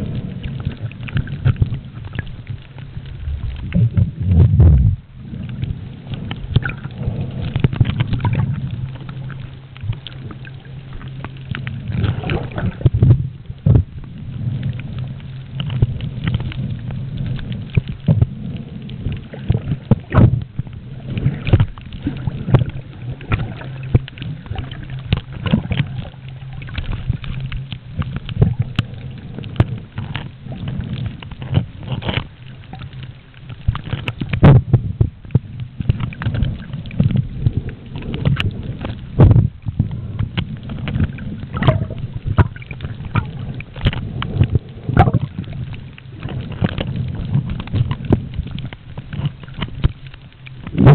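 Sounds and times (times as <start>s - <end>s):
irregular underwater clicks and knocks: 0.0s - 50.9s
underwater rumble of moving water: 0.0s - 50.9s.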